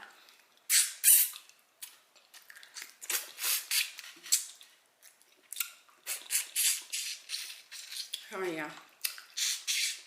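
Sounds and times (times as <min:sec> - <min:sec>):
chewing and mouth smacking: 0:00.3 - 0:08.3, 0:09.0 - 0:10.0.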